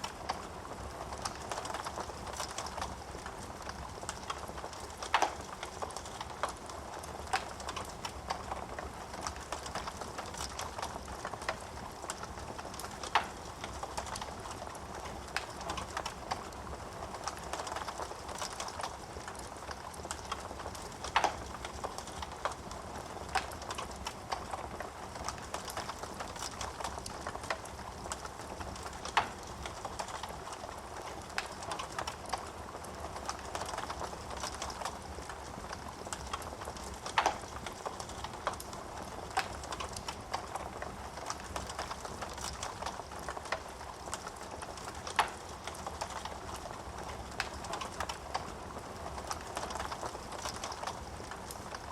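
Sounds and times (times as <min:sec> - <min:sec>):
burning wood popping: 0:00.0 - 0:51.9
wood fire crackling: 0:00.0 - 0:51.9.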